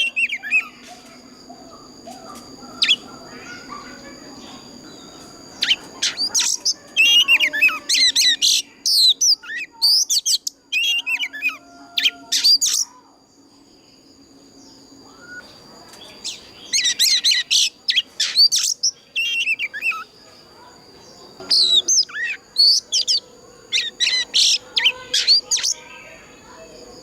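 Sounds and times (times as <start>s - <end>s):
bird singing whistled notes: 0.0s - 13.0s, 14.6s - 20.2s, 21.4s - 27.0s.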